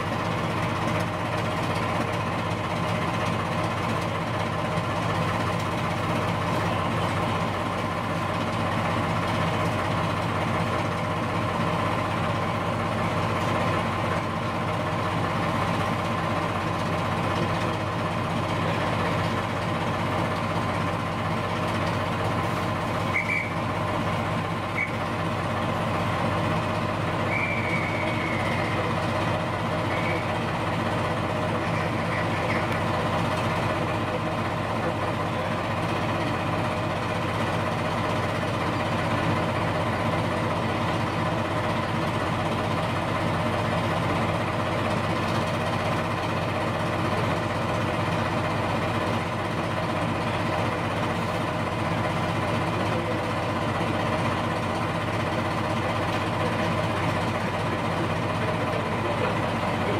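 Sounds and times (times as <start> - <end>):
diesel locomotive engine idling: 0.0 - 59.9.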